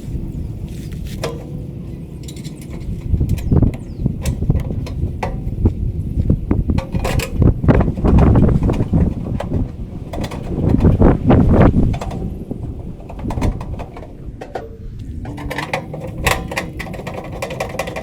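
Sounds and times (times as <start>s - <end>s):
hand tools clicking on metal: 2.2s - 18.0s.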